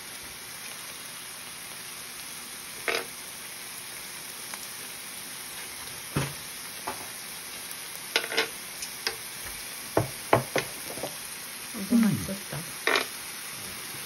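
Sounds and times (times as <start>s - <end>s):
meat sizzling on a hot plate: 0.0s - 14.0s.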